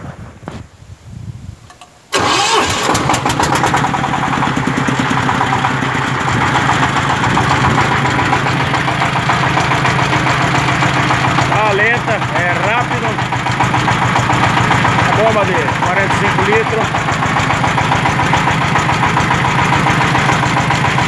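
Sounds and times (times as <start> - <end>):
diesel engine starting and running: 1.7 - 21.0.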